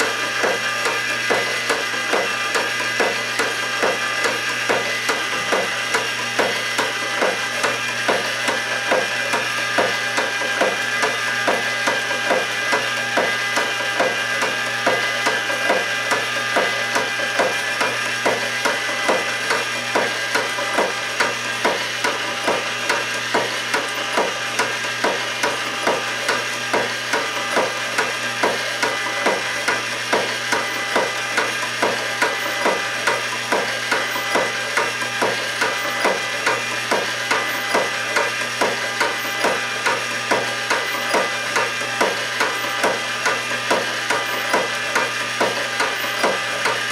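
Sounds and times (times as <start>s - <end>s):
wooden gears clacking: 0.0s - 46.9s.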